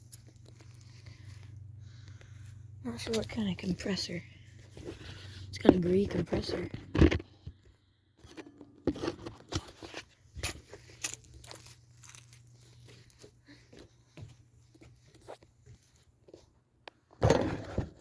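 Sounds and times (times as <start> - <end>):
crunching and rustling: 0.0 - 7.6, 8.3 - 16.6
faint low hum: 0.0 - 16.3.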